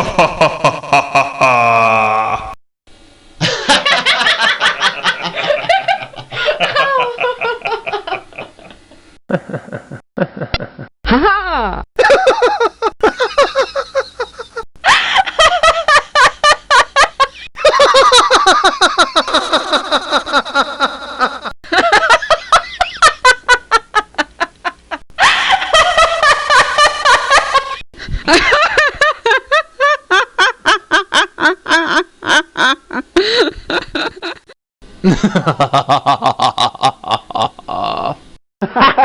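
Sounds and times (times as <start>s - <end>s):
rhythmic recorded laughs: 3.4s - 11.2s, 12.0s - 37.5s.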